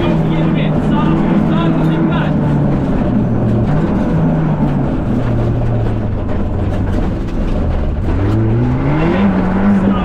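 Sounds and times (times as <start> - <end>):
car engine from inside cabin: 0.0 - 10.0
road and tyre noise: 0.0 - 10.0.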